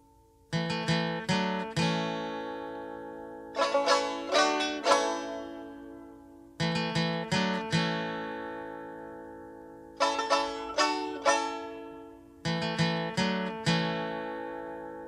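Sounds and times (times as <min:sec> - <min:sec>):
plucked string instrument chords: 0:00.0 - 0:15.0.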